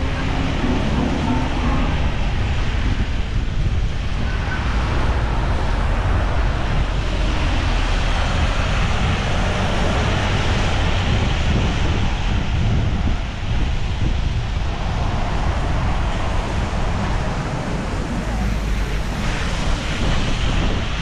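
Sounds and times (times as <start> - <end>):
steady rain: 0.0 - 21.0
wind rumble on microphone: 0.0 - 21.0.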